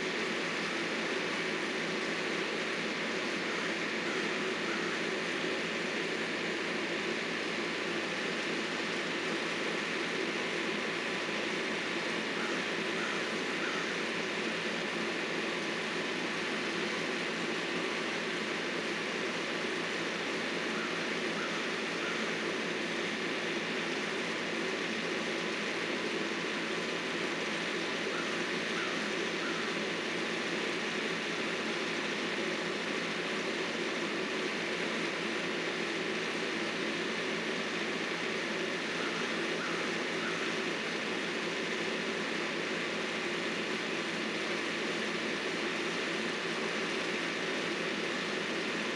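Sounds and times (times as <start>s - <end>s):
heavy equipment engine running: 0.0s - 48.9s.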